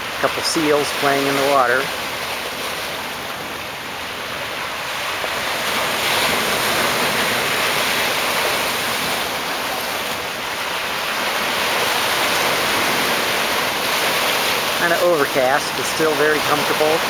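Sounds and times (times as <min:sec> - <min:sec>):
surf washing against rocks: 0:00.0 - 0:17.0.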